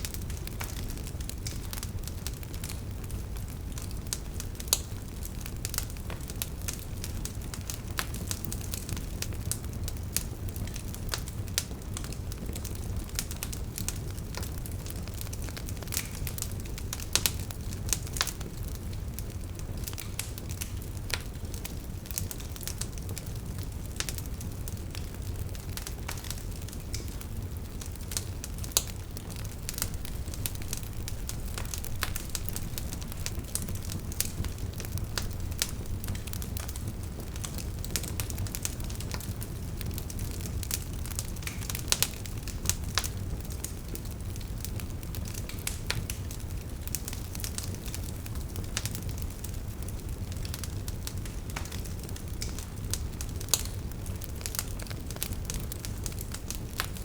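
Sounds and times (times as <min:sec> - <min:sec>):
logs crackling and popping: 0:00.0 - 0:57.0
low rumble of flame: 0:00.0 - 0:57.0.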